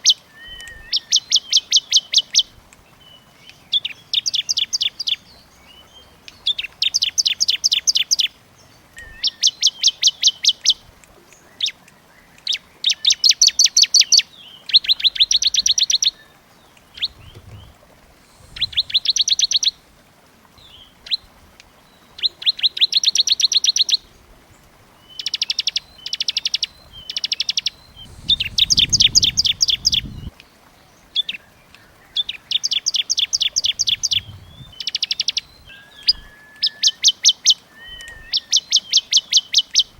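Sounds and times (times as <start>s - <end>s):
small songbirds trilling: 0.0s - 39.9s.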